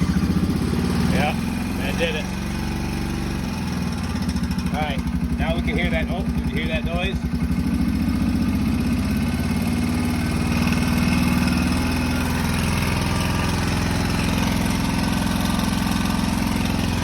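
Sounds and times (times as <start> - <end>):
small vehicle engine running: 0.0 - 17.0.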